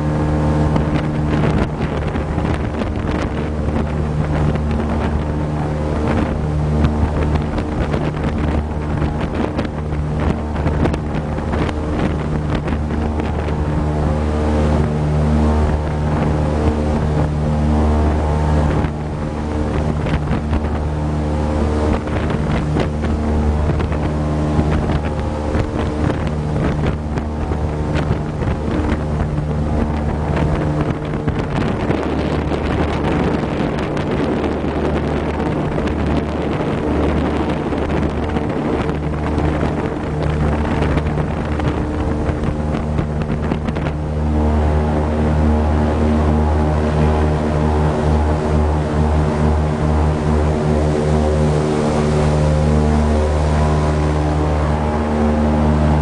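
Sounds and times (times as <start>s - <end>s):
airboat engine and propeller: 0.0s - 56.0s
wind on microphone: 0.0s - 56.0s.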